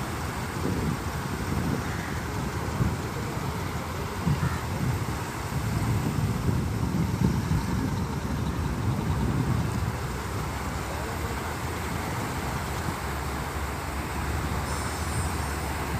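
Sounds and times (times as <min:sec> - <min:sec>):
wind: 0:00.0 - 0:15.9
faint voices: 0:00.6 - 0:15.9.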